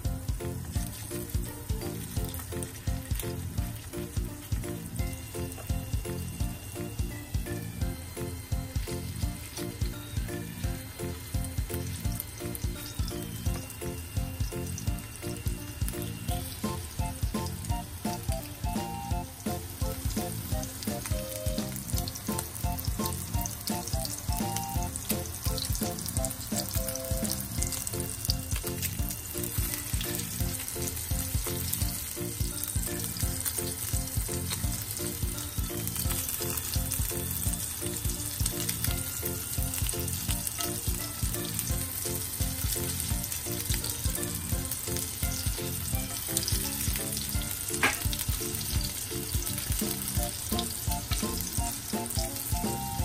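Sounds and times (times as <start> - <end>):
patties sizzling in hot oil: 0.0 - 53.0
spatula turning patties: 0.0 - 53.0.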